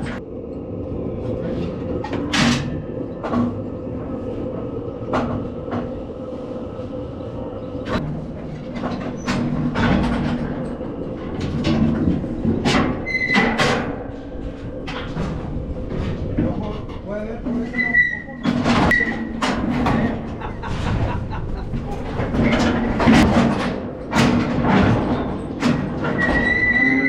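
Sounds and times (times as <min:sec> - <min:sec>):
metal clanks and rattles: 0:01.4 - 0:04.1, 0:07.8 - 0:27.0.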